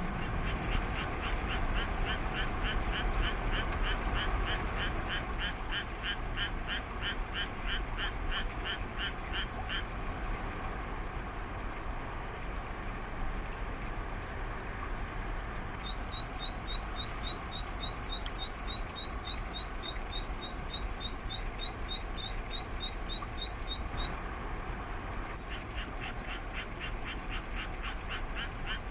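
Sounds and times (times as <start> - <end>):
falling rain hiss: 0.0 - 28.9.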